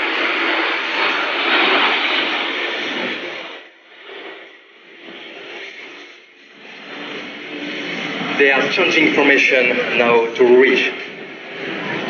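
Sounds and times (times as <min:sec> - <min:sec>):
jets passing overhead: 0:00.0 - 0:12.0.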